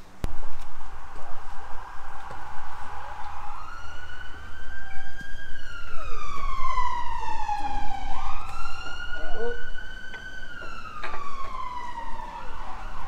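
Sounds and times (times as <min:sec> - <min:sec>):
siren wailing: 0:00.2 - 0:13.0.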